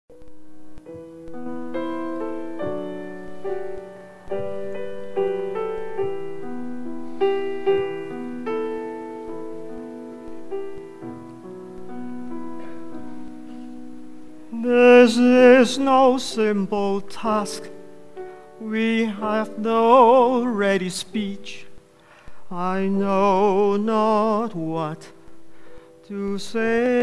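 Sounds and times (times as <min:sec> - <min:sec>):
slow solo piano: 0:00.1 - 0:27.0.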